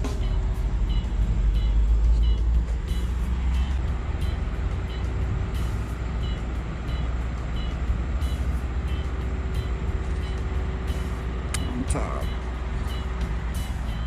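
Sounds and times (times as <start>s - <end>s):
heavy diesel machinery rumbling: 0.0s - 14.0s
reversing alarm beeping: 0.0s - 14.0s.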